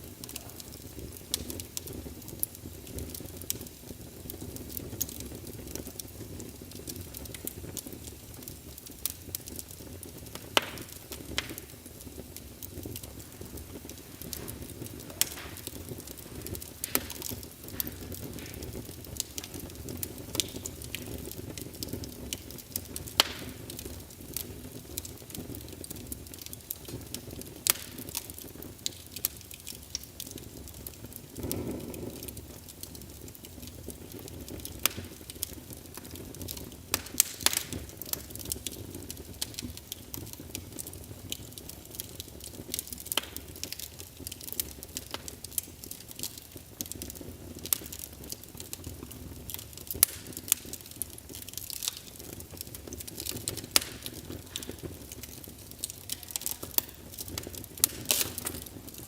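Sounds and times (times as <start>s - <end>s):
fire crackling and popping: 0.0s - 59.0s
flames rumbling: 0.0s - 59.0s.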